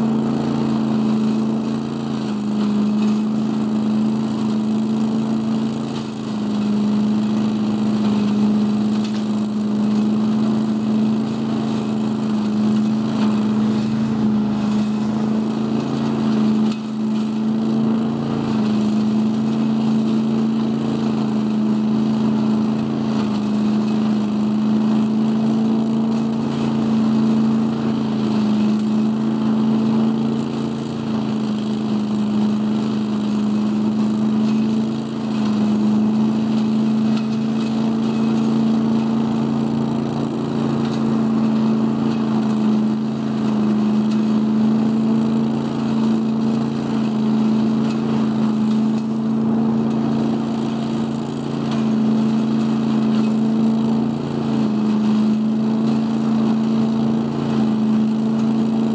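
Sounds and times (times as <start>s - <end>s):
engine hum: 0.0s - 56.2s.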